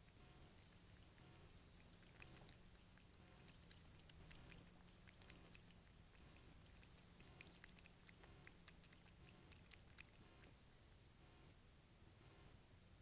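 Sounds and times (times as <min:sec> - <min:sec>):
cat lapping water: 0:00.0 - 0:10.7.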